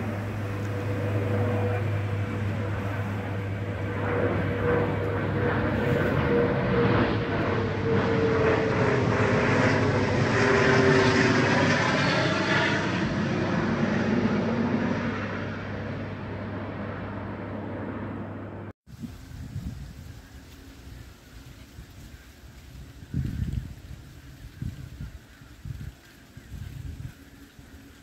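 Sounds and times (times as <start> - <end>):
propeller airplane flying over: 0.0 - 28.0.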